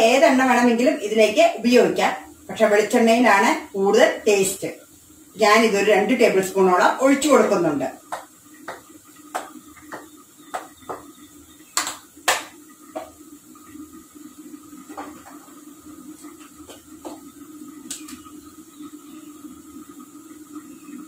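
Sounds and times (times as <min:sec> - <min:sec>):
gas burners humming: 0:00.0 - 0:21.0.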